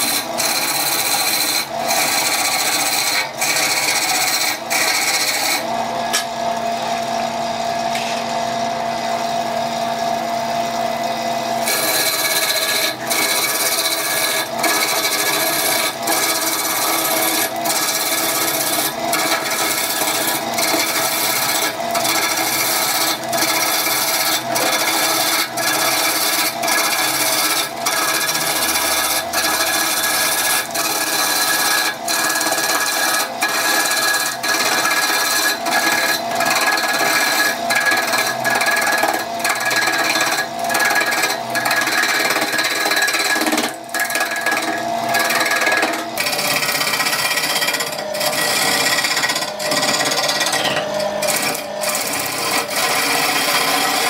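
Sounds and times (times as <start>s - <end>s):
wood rasping strokes: 0.0s - 5.7s, 11.6s - 54.0s
steady mechanical hum: 0.0s - 54.0s.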